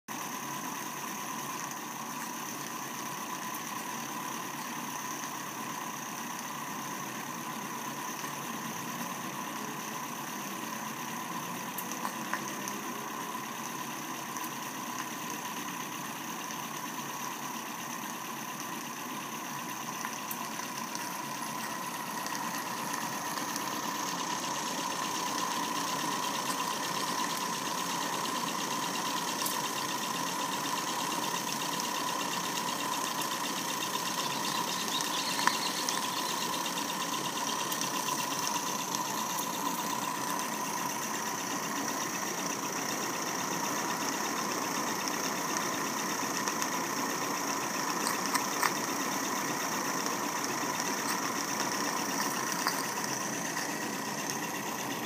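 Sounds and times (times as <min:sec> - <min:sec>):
model steam engine running: 0:00.1 - 0:55.0.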